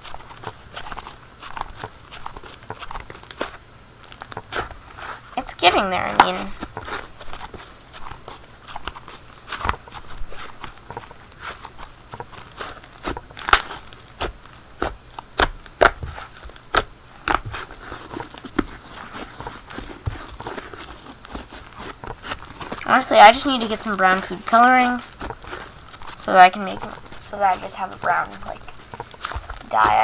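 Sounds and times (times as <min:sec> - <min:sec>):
hands squishing slime: 0:00.0 - 0:30.0.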